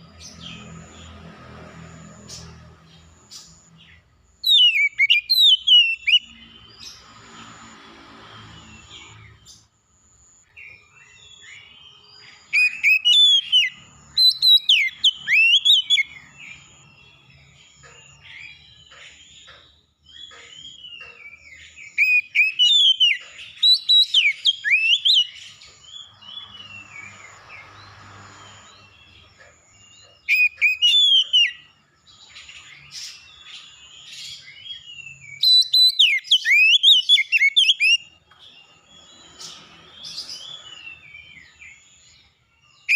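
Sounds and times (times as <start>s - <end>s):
background bird chirping: 0.0s - 42.9s
bird song whistled notes: 3.3s - 7.0s, 10.4s - 19.4s, 20.1s - 27.8s, 28.4s - 42.9s.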